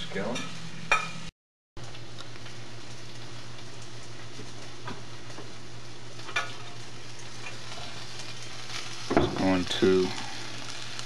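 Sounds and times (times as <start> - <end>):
chicken sizzling in a skillet: 1.8 - 11.0.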